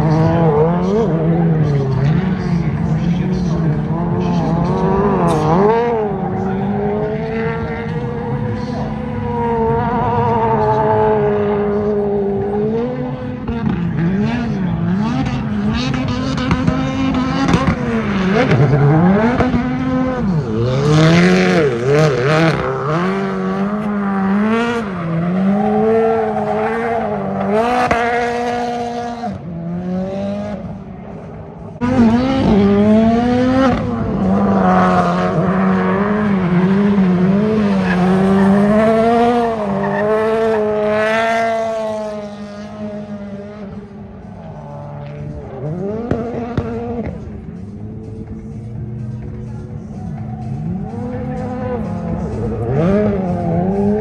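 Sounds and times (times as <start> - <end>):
tires squealing: 0.0 - 30.6, 31.9 - 54.0
car engine revving: 0.0 - 54.0.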